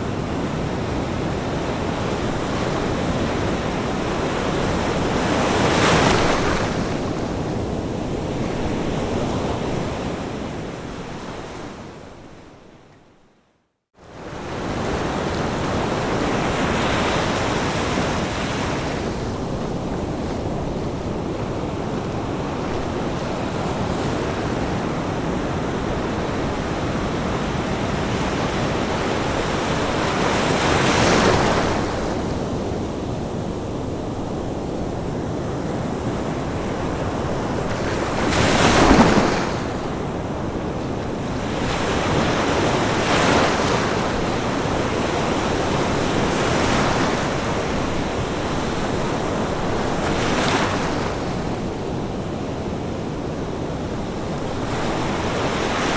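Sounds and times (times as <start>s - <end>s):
ocean waves breaking on beach: 0.0s - 12.6s, 14.0s - 55.9s.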